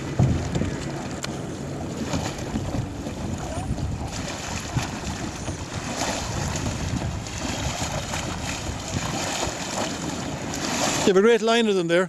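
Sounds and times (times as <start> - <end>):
wind buffeting microphone: 0.0 - 11.2
water washing: 0.0 - 11.6.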